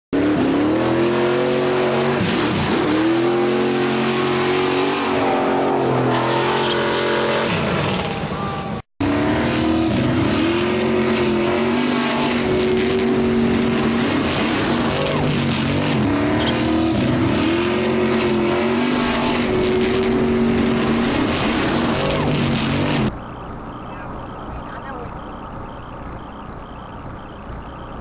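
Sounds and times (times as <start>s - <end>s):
car engine revving and shifting gear: 0.1s - 23.2s.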